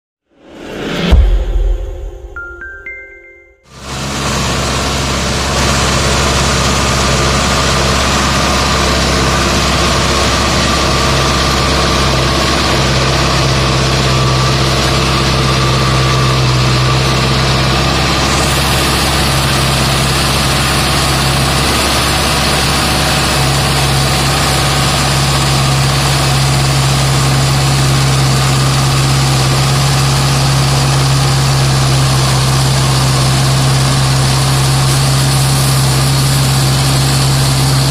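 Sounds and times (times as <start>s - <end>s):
tractor diesel engine running: 3.7s - 37.9s.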